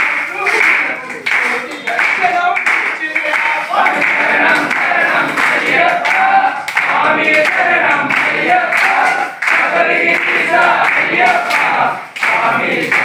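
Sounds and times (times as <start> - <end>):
hand claps: 0.0 - 13.0
men singing devotional song: 0.0 - 13.0.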